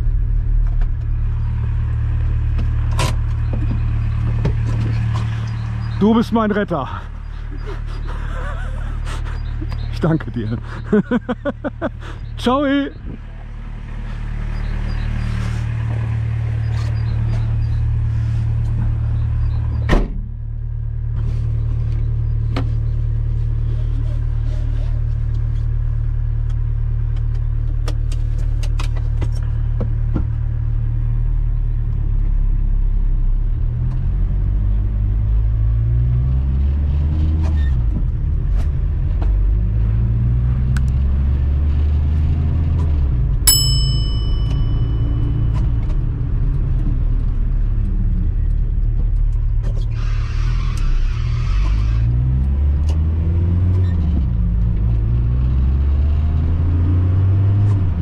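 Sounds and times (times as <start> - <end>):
diesel engine idling and revving: 0.0 - 43.6, 44.2 - 58.0.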